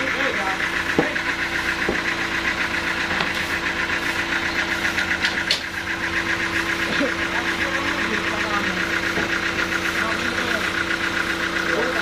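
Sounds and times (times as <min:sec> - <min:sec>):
sawmill machinery pulsing hum: 0:00.0 - 0:12.0.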